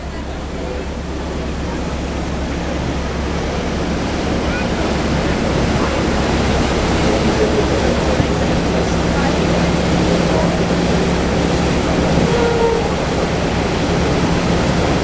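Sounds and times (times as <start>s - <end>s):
engine running low: 0.0s - 15.0s
water rushing from a weir: 0.0s - 15.0s.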